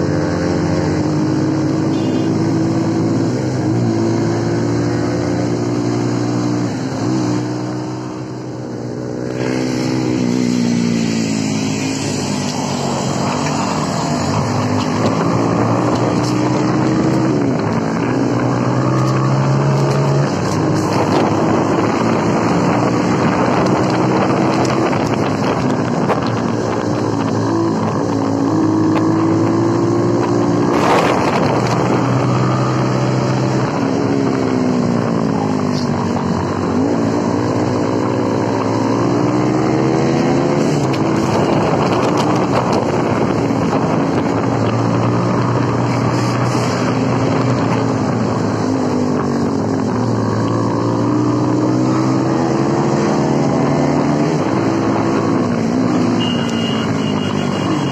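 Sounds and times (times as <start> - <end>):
motorcycle engines revving: 0.0 - 57.9
wind on microphone: 9.3 - 56.1.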